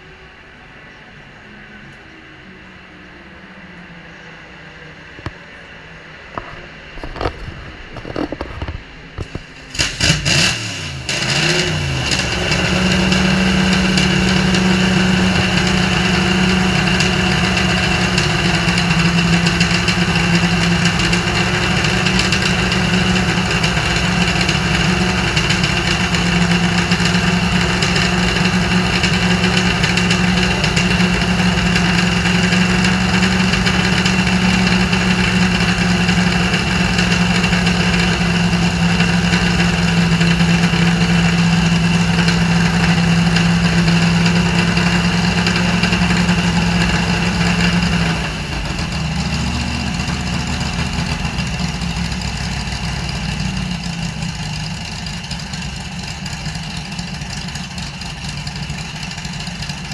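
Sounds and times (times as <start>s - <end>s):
car engine starting and idling: 0.0s - 59.9s.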